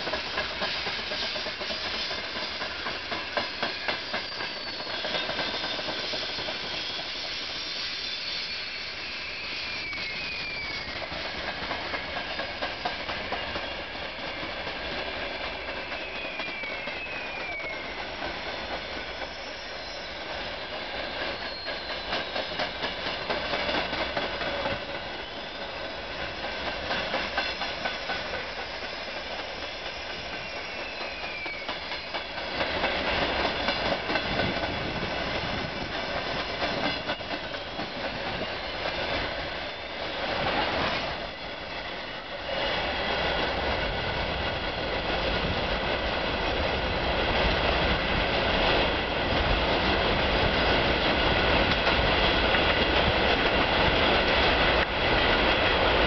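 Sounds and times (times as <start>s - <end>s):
clickety-clack over rail joints: 0.0s - 7.6s, 9.9s - 56.0s
freight train wheels rumbling: 0.0s - 56.0s.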